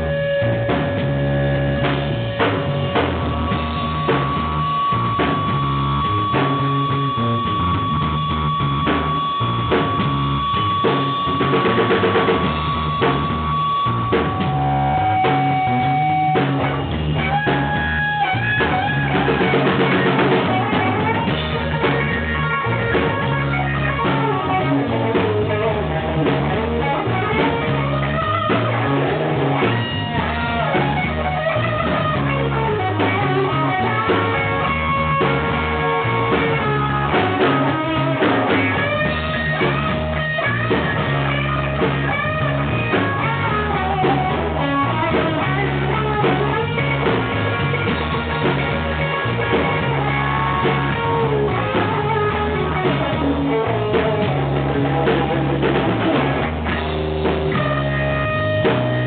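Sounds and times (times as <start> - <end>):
bass: 0.0 - 59.0
drum kit beat: 0.0 - 59.0
electric guitar lines: 0.0 - 59.0.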